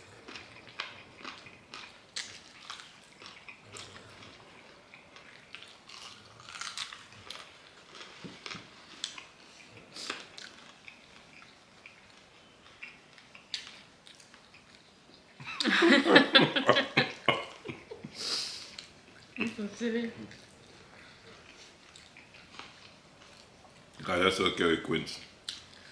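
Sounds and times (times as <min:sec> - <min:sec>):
chewing crispy fried chicken: 0:00.0 - 0:15.7, 0:16.8 - 0:25.9.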